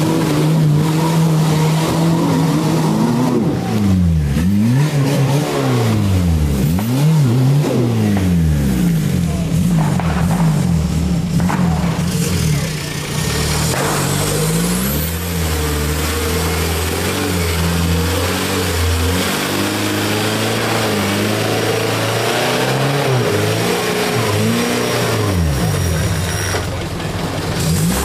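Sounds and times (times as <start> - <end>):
diesel engine revving hard: 0.0 - 28.0.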